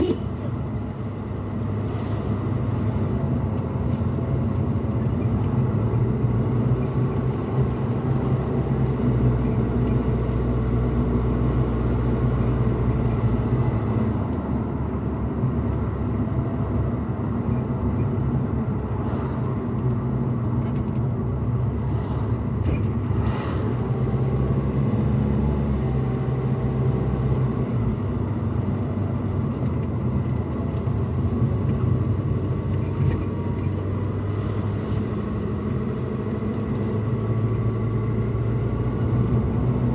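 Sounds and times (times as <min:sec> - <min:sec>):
tyre and road rumble: 0:00.0 - 0:39.9.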